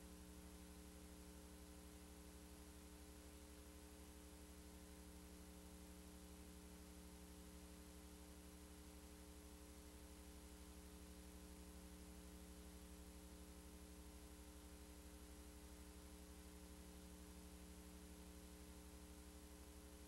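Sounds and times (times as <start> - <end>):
faint electrical hum with hiss: 0.0 - 20.0.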